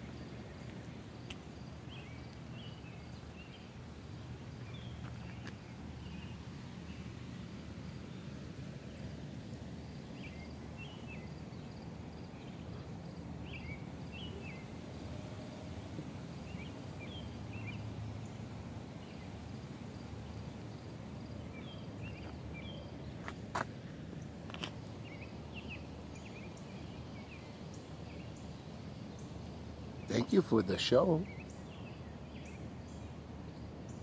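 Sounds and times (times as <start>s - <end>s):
small birds chirping: 0.0s - 15.2s, 16.4s - 34.0s.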